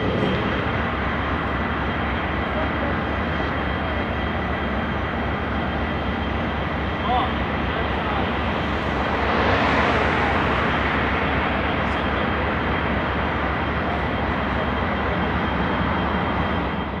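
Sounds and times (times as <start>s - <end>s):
diesel locomotives idling: 0.0s - 17.0s.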